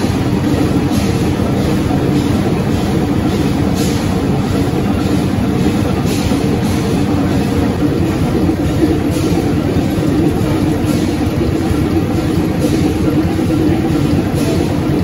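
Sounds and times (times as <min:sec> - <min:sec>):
large engine drone: 0:00.0 - 0:15.0.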